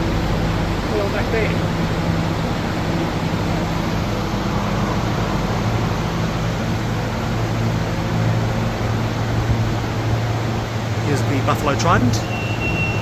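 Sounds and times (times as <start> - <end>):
refrigerator fans humming: 0.0 - 13.0.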